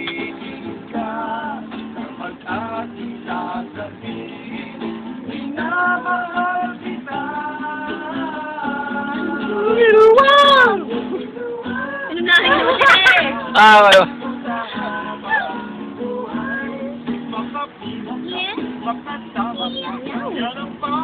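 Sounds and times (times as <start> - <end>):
acoustic guitars strumming: 0.0 - 21.0
man singing: 0.0 - 21.0.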